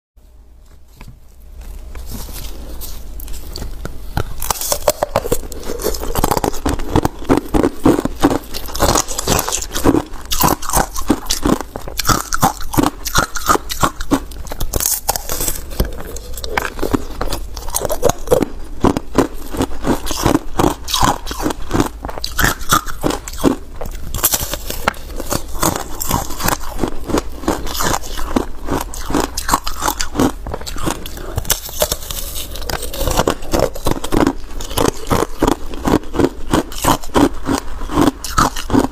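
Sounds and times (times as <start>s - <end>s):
crunching frozen ice: 1.8s - 38.9s.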